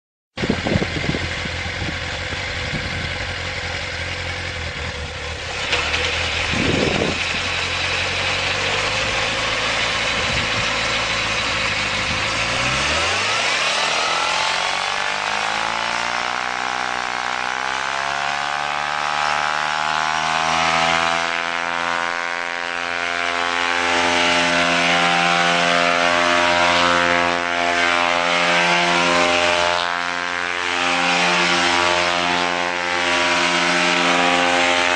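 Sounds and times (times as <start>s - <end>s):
small engine revving: 0.4s - 34.9s.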